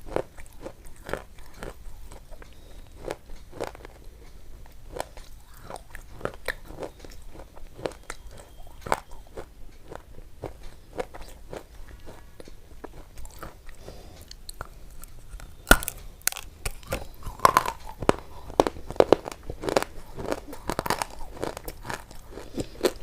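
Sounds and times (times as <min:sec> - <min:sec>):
crunchy chewing and biting: 0:00.0 - 0:23.0.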